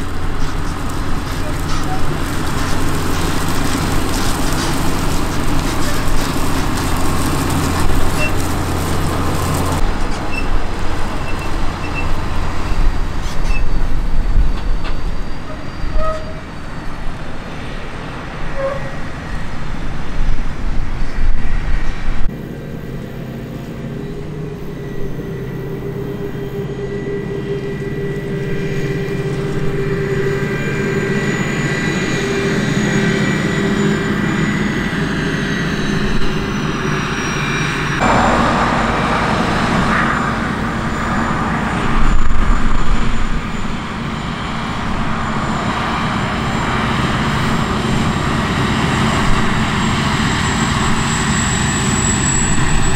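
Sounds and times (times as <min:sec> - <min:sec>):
held whining tones: 0:00.0 - 0:20.0, 0:21.0 - 0:52.9
vehicle engine noise: 0:00.0 - 0:52.9.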